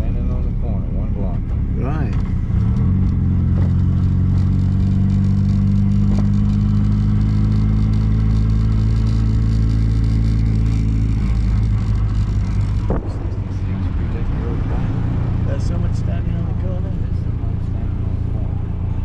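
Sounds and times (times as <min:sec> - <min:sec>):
car engine running steadily: 0:00.0 - 0:19.0.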